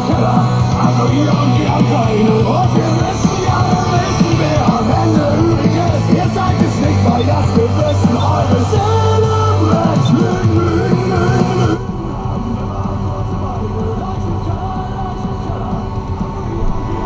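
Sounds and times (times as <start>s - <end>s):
music with singing on radio: 0.0s - 17.0s.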